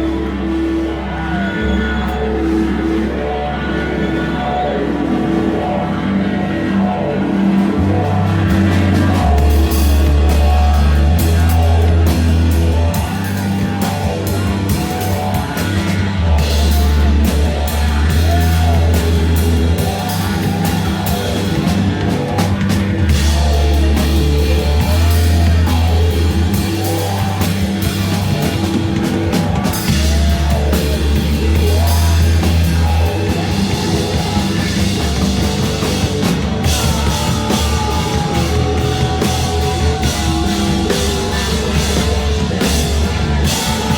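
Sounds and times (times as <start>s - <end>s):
drum kit: 0.0s - 43.9s
heavy bass line: 0.0s - 43.9s
heavy rock band playing: 0.0s - 43.9s
vocals: 0.0s - 43.9s.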